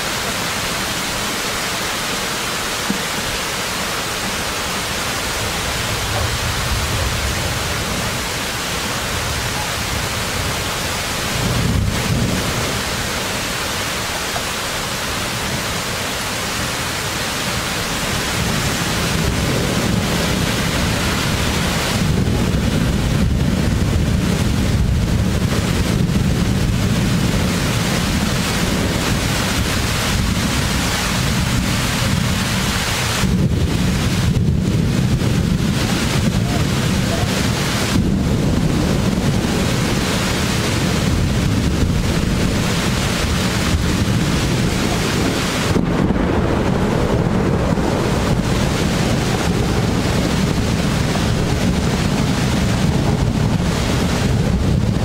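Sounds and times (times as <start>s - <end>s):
heavy rain pouring: 0.0s - 55.0s
thunder rumbling: 3.4s - 55.0s.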